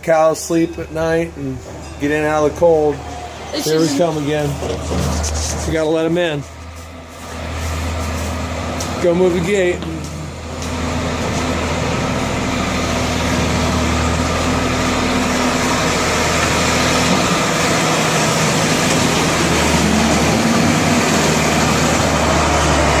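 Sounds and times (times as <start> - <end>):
farm machinery engine running: 0.0 - 23.0.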